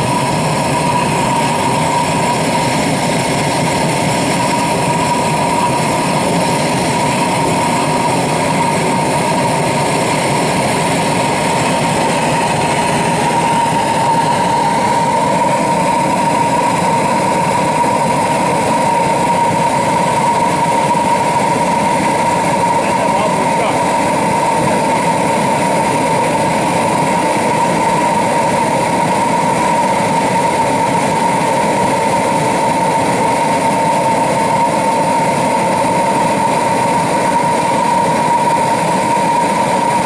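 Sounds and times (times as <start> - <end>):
pulse jet engine buzzing: 0.0 - 40.0.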